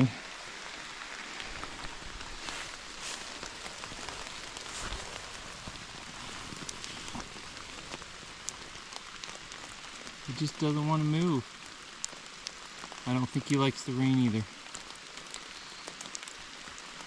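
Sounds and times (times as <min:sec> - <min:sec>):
steady rain: 0:00.0 - 0:17.0
single raindrops ticking: 0:00.8 - 0:17.0.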